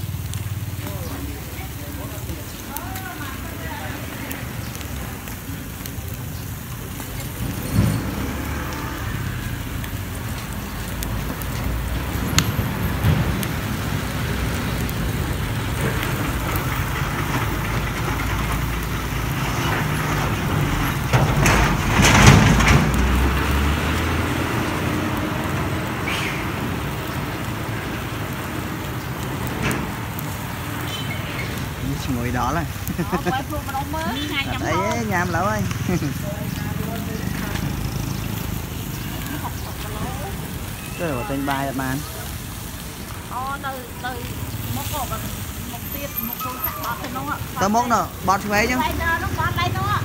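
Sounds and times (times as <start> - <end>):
meat sizzling on a grill: 0.0 - 50.0.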